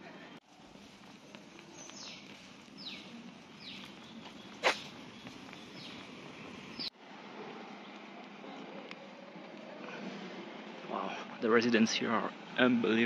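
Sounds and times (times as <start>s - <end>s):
street background: 0.0s - 13.0s.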